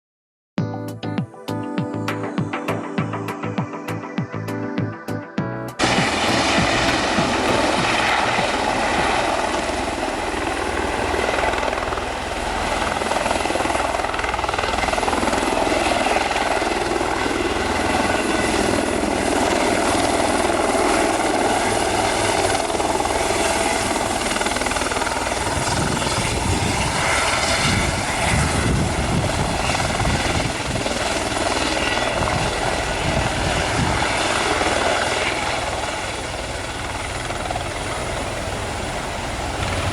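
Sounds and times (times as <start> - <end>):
helicopter hovering: 2.1 - 39.9.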